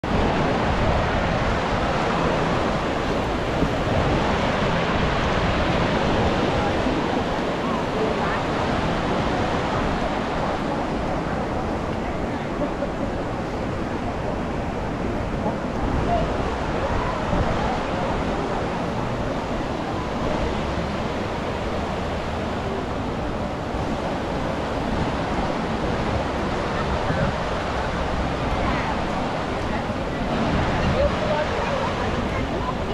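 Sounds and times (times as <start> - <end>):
surf washing onto beach: 0.0 - 32.9
wind rumbling on microphone: 0.0 - 32.9.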